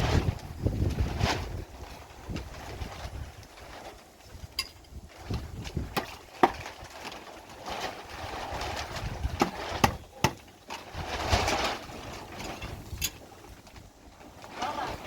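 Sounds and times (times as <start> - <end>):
wind gusts: 0.0 - 6.9, 7.6 - 15.0.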